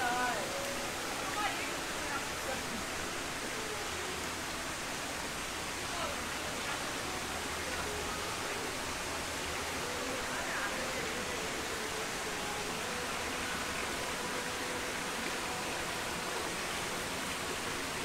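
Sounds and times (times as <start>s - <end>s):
faint distant voices: 0.0s - 18.0s
rushing outdoor ambience: 0.0s - 18.0s.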